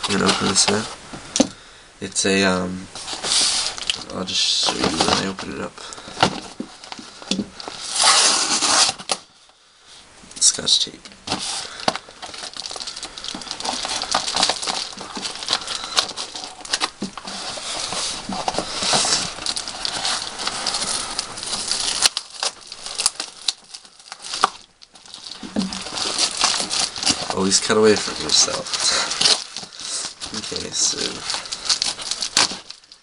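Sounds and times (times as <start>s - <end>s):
packaging rustling and crinkling: 0.0s - 1.6s, 2.2s - 9.4s, 10.4s - 33.0s
tape tearing: 3.0s - 5.6s, 6.2s - 9.2s, 11.2s - 33.0s.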